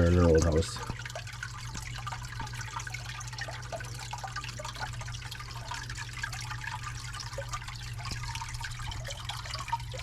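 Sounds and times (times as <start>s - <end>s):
steady low hum: 0.0s - 10.0s
water trickling and dripping: 0.0s - 10.0s.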